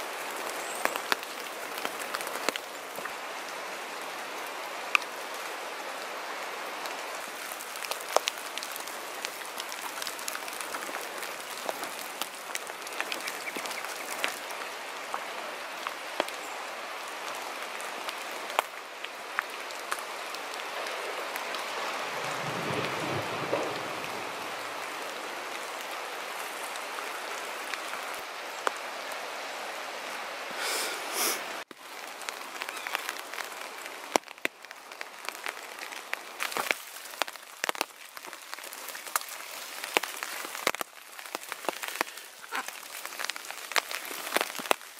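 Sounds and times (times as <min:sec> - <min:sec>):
rain and drips in forest: 0:00.0 - 0:44.9.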